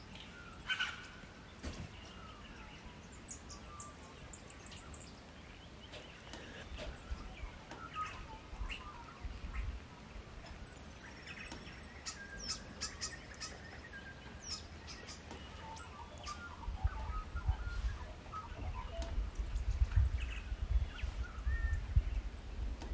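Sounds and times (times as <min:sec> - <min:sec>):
birds chirping and whistling: 0:00.0 - 0:22.9.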